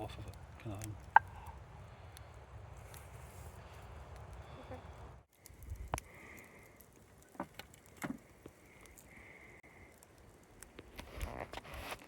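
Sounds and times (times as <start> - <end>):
campfire crackling: 0.0 - 12.0
fire pops and clicks: 0.0 - 12.0.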